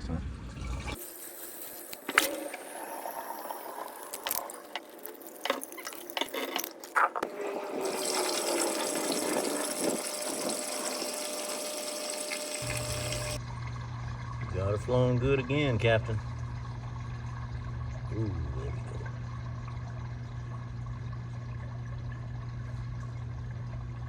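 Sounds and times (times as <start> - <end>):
running water: 0.5 - 23.8.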